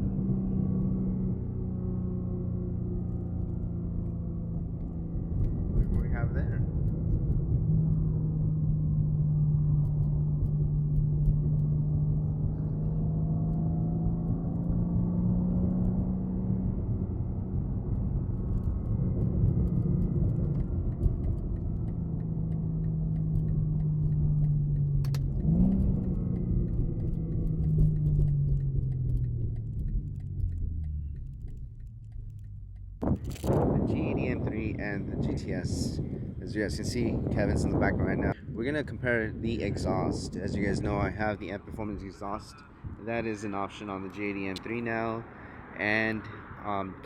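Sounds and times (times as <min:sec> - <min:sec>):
car engine droning: 0:00.0 - 0:47.0
road rumble: 0:00.0 - 0:47.0.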